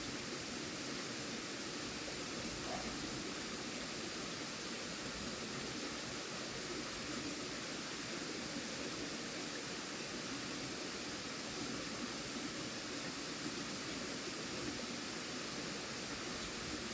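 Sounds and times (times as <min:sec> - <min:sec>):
steady ambient hiss: 0:00.0 - 0:16.9.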